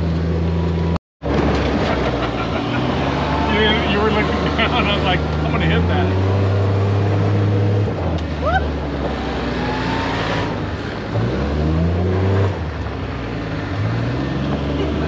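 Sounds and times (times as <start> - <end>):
utility vehicle engine droning: 0.0 - 15.0
wind and road noise: 0.0 - 15.0.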